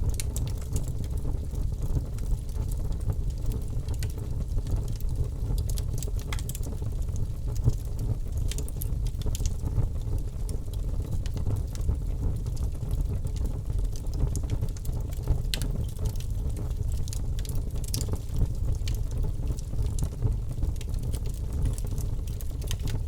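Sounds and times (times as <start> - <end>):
low rumble of flames: 0.0 - 23.0
wood fire crackling and popping: 0.0 - 23.0.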